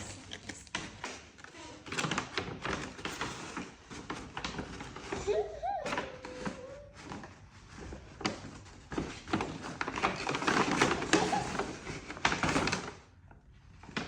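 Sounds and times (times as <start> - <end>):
gift wrapping crinkling: 0.0 - 14.0.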